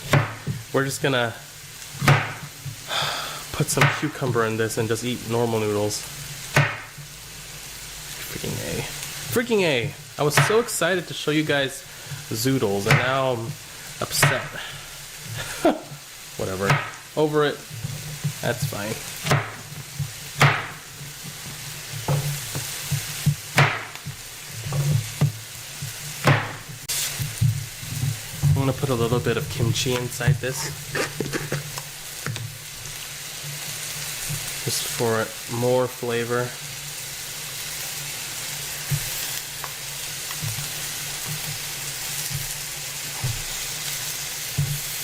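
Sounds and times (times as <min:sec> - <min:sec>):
vegetables sizzling in oil: 0:00.0 - 0:45.0.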